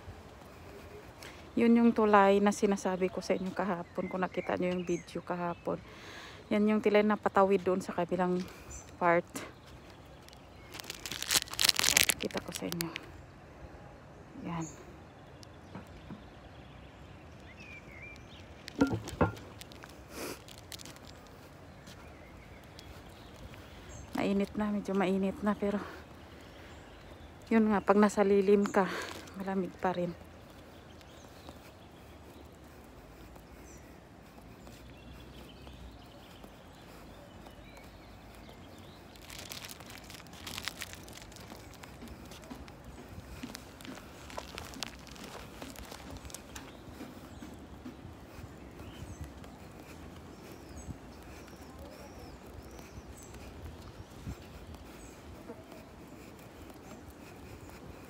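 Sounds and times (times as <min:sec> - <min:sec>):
bird chirp: 0:00.4 - 0:58.0
footsteps crunching on gravel: 0:06.8 - 0:13.0, 0:17.4 - 0:58.0.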